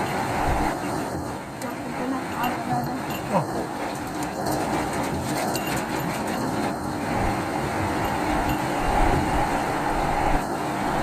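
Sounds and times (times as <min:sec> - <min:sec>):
road and engine noise: 0:00.0 - 0:11.0.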